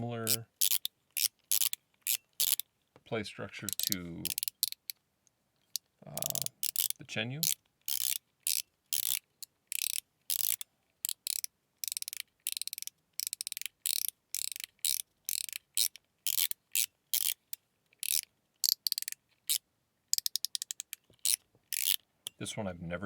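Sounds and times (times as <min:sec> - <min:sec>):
fidget slider click-rattle: 0:00.2 - 0:02.7, 0:03.6 - 0:05.0, 0:05.7 - 0:22.0.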